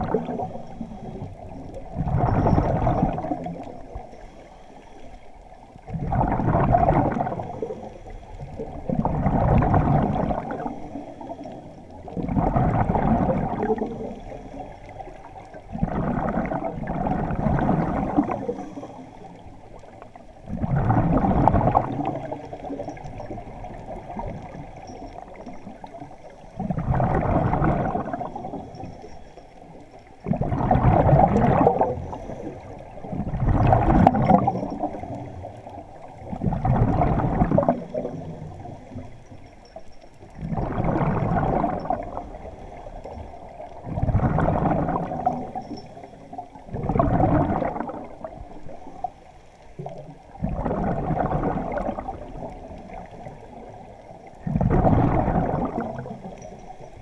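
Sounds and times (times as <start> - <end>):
underwater exhaled bubbles gurgling: 0.0 - 57.0.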